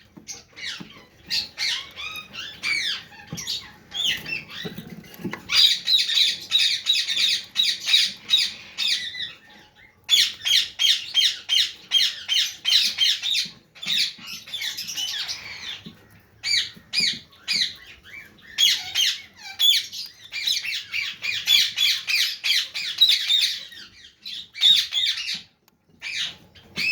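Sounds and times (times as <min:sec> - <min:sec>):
parrots squawking: 0:00.1 - 0:26.9.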